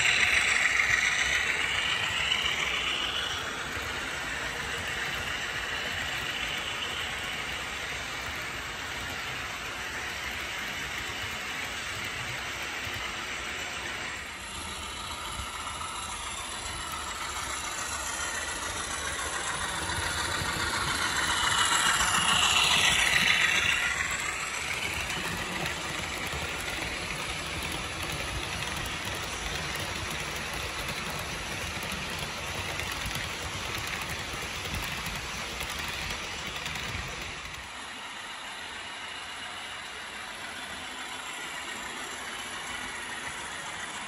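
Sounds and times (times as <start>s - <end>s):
model train wheels rumbling: 0.0s - 44.0s.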